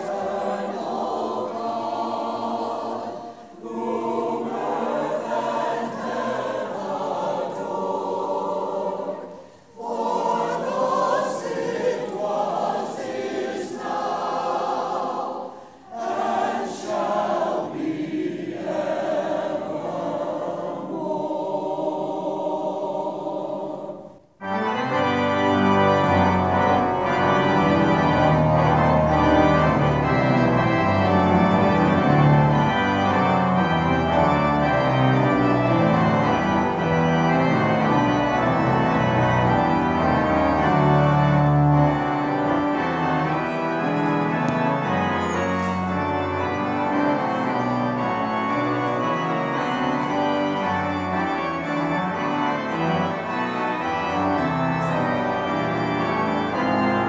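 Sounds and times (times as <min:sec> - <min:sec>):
choir singing: 0:00.0 - 0:57.0
church organ: 0:00.0 - 0:57.0.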